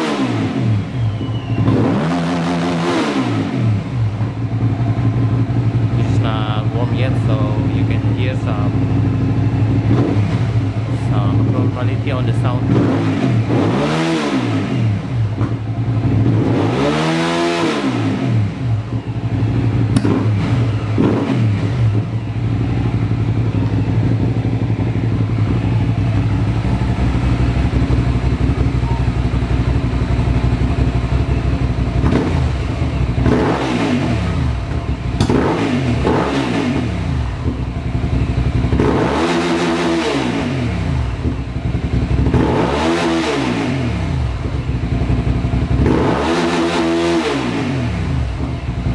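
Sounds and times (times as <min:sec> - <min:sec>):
motorcycle engine revving: 0:00.0 - 0:48.9
motorcycle engine idling: 0:00.5 - 0:01.9, 0:03.5 - 0:13.7, 0:14.5 - 0:16.9, 0:17.9 - 0:39.7, 0:40.4 - 0:46.1, 0:47.7 - 0:48.9.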